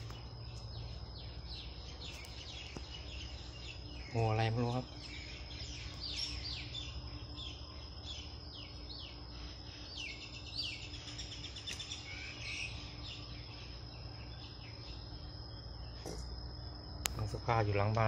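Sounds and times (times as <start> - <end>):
faint low hum: 0.0 - 18.0
high-pitched insect drone: 0.0 - 18.0.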